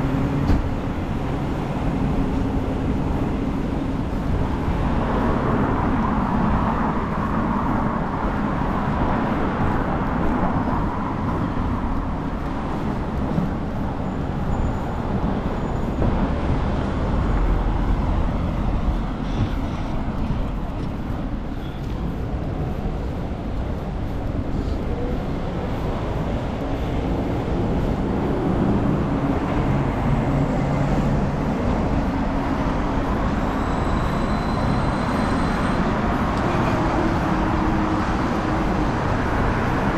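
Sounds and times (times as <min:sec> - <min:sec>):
passing cars: 0:00.0 - 0:39.9.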